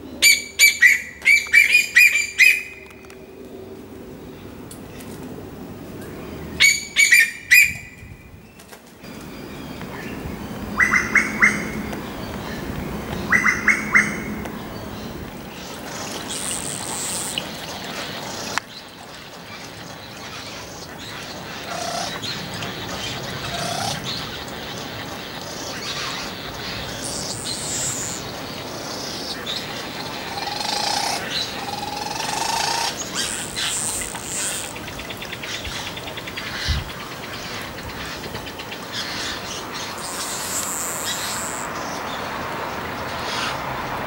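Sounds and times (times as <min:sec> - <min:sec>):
outdoor background noise: 0:00.0 - 0:44.0.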